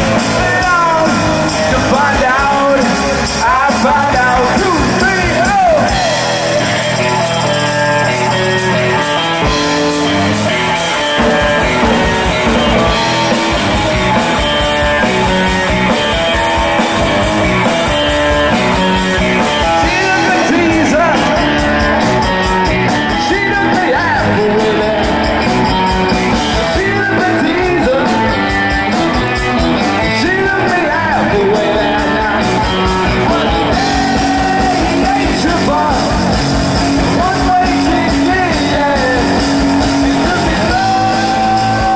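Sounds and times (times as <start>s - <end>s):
person singing: 0.0s - 9.8s, 10.4s - 41.9s
live rock band: 0.0s - 41.9s.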